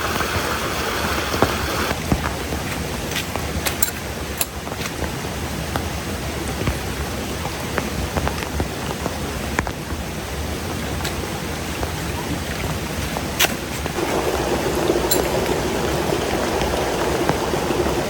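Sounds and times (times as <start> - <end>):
heavy rain: 0.0 - 18.0
raindrops ticking close by: 0.0 - 18.0.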